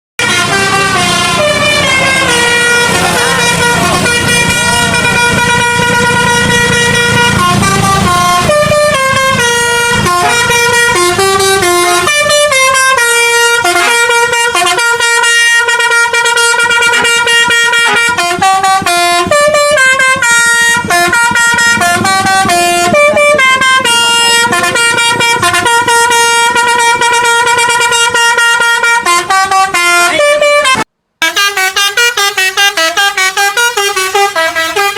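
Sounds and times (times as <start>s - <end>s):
multi-note air horn playing a tune: 0.2s - 34.9s.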